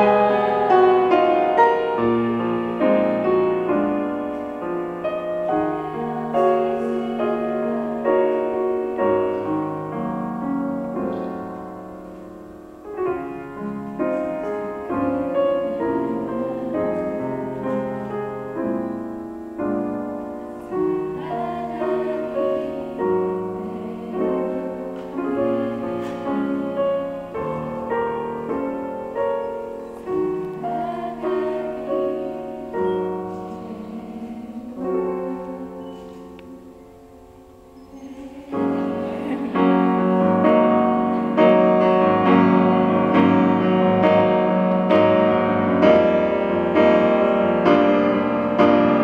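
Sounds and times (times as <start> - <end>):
grand piano playing: 0.0 - 49.0.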